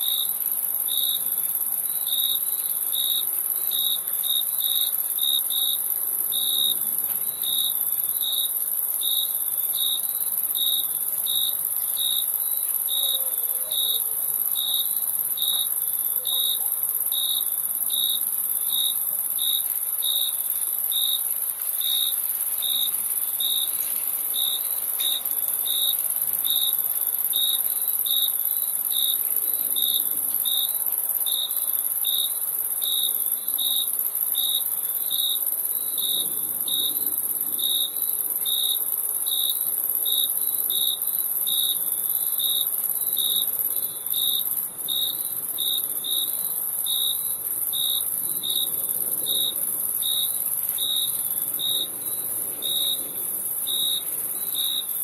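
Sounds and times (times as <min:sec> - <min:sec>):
crickets chirping: 0:00.0 - 0:55.0
high-pitched insect trill: 0:00.0 - 0:55.0.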